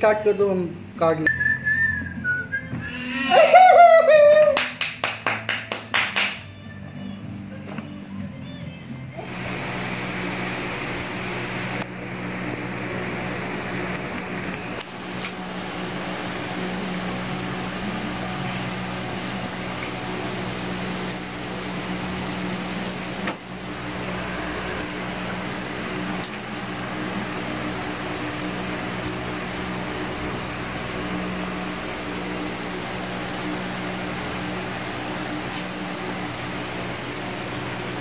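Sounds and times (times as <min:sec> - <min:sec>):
ventilation hum: 0:00.0 - 0:38.0.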